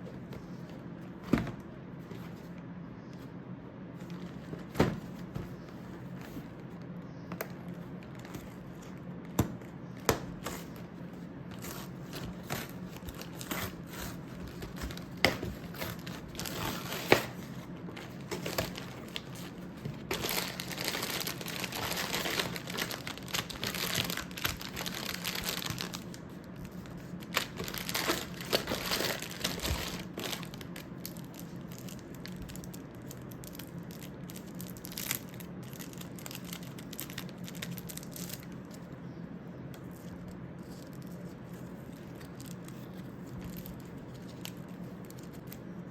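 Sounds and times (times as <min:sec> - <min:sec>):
plastic packaging crinkling: 0:07.5 - 0:38.8, 0:39.8 - 0:45.8.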